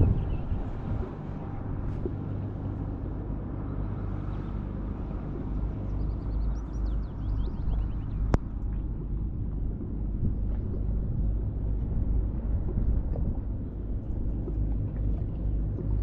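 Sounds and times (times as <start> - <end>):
distant engine rumble: 0.0 - 16.0
wind noise on microphone: 0.0 - 16.0.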